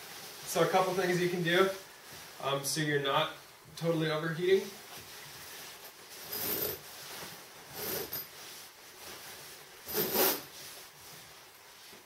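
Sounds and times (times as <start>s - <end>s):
sleeping bag nylon rustling: 0.0s - 2.8s, 4.5s - 12.0s.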